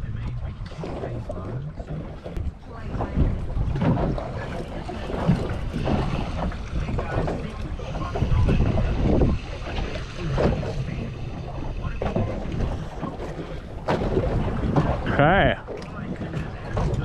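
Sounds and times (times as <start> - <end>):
water slapping against boat hull: 0.0 - 17.0
wind buffeting microphone: 0.0 - 17.0.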